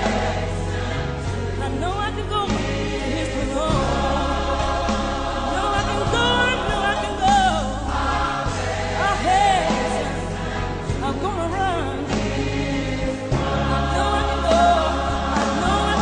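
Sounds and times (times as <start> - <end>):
gospel choir singing: 0.0 - 16.0.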